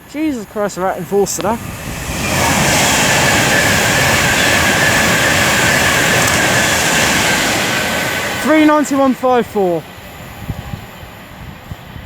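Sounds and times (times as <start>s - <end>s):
high whine: 0.0s - 9.8s
electric train passing at speed: 0.0s - 12.0s.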